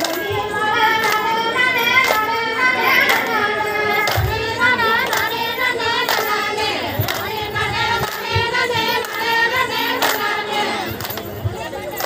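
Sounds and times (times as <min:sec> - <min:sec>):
hand claps: 0:00.0 - 0:12.0
women singing folk song: 0:00.0 - 0:12.0.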